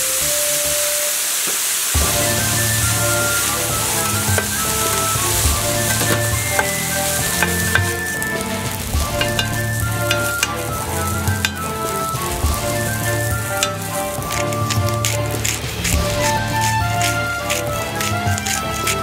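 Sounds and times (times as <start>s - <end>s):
rice sizzling on a griddle: 0.0s - 19.0s
background music: 1.9s - 19.0s
metal spatula scraping: 2.0s - 19.0s.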